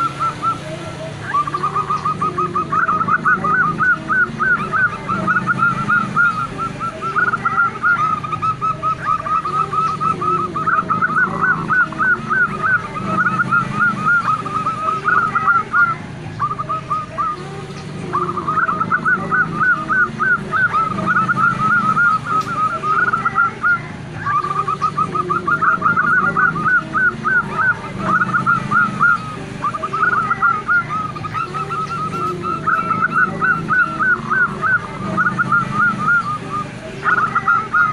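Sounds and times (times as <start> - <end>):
dove calling in rapid rising notes: 0.0 - 37.9.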